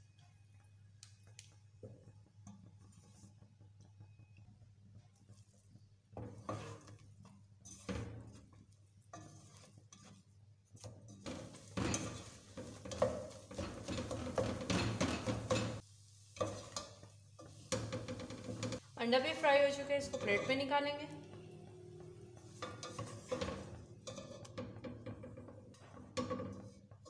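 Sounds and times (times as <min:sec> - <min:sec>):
egg sizzling in oil: 0:00.0 - 0:27.0
spatula scraping pot: 0:02.4 - 0:03.6, 0:05.0 - 0:27.0.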